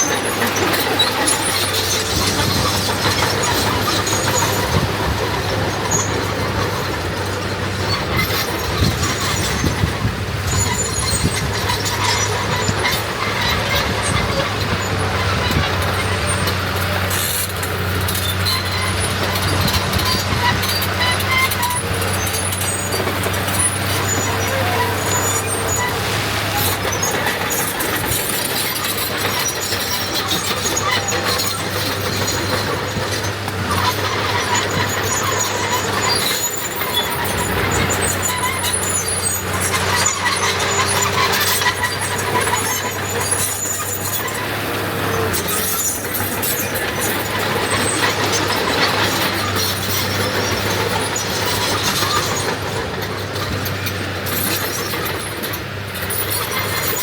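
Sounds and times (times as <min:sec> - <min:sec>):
heavy diesel machinery running: 0:00.0 - 0:57.0
high metallic squeals: 0:10.5 - 0:57.0.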